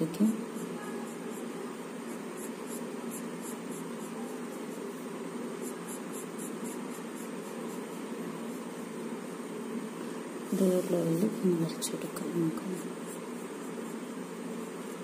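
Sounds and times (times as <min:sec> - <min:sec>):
pencil scratching on paper: 0:00.0 - 0:09.4, 0:10.5 - 0:15.0
steady background hiss: 0:00.0 - 0:15.0.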